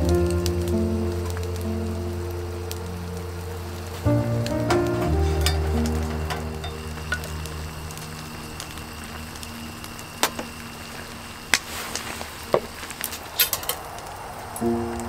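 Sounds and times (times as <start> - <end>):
background music with held notes: 0.0 - 12.2, 14.6 - 15.0
sharp pops and crackles: 0.0 - 14.7
pot simmering with soft hiss: 0.0 - 15.0.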